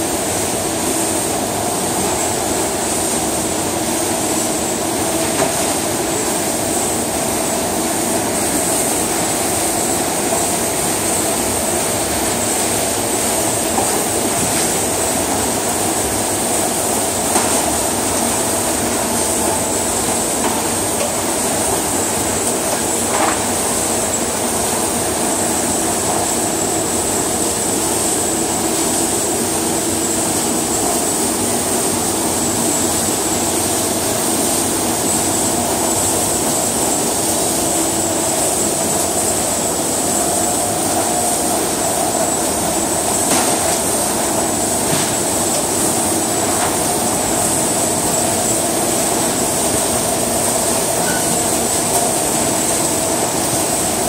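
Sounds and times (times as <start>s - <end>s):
conveyors and motors running: 0.0s - 54.0s
high mechanical whine: 0.0s - 54.0s.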